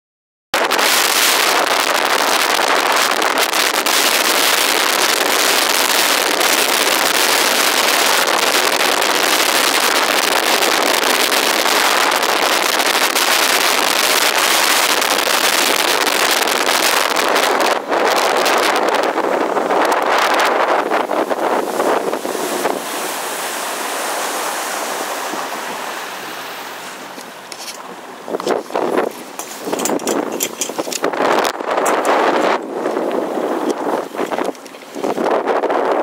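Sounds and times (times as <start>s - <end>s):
wind rushing over microphone: 0.6s - 36.0s.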